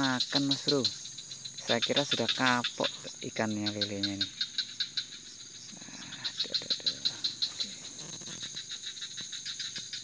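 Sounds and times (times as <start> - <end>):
insects trilling: 0.0 - 10.0
rapid pulsing insect call: 0.0 - 10.0.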